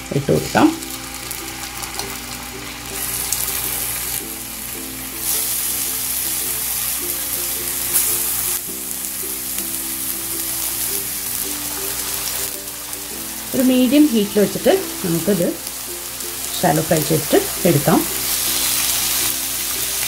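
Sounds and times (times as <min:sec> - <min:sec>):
background music: 0:00.0 - 0:20.0
chicken sizzling in oil: 0:00.0 - 0:20.0.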